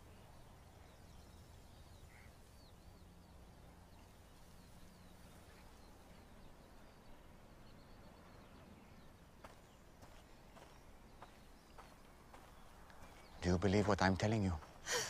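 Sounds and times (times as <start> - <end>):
faint bird chirps: 0.0 - 14.9.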